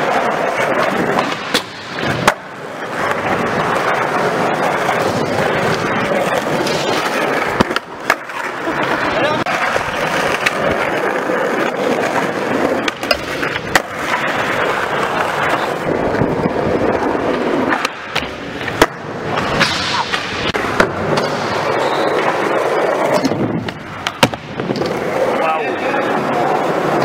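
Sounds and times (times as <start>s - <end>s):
skateboard clacks: 0.0s - 27.0s
skateboard wheels rolling: 0.0s - 27.0s.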